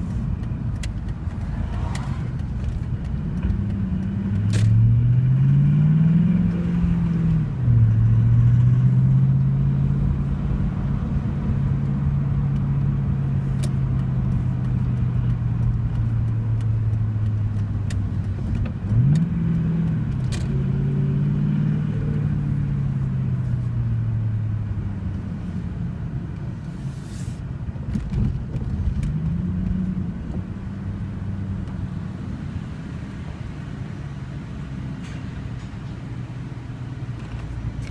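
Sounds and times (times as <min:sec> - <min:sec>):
car engine running: 0:00.0 - 0:05.5, 0:06.2 - 0:34.9
road rumble: 0:00.0 - 0:37.9.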